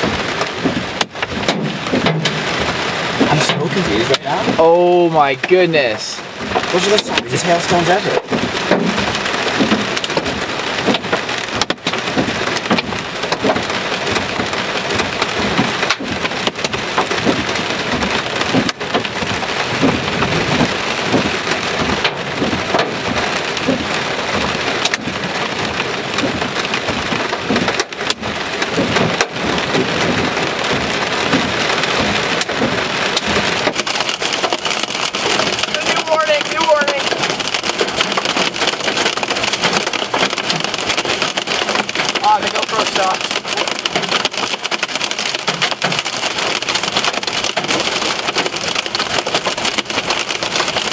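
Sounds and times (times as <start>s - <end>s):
hail and rain on car roof: 0.0s - 50.9s.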